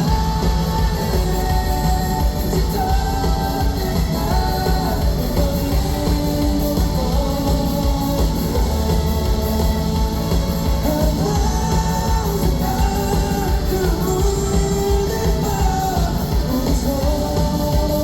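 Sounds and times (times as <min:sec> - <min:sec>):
live rock band with singing: 0:00.0 - 0:18.0.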